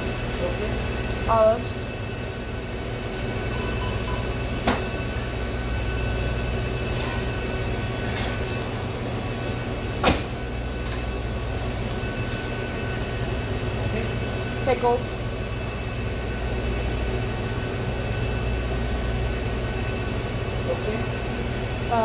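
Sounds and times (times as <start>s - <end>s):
air-conditioning hum: 0.0s - 22.0s.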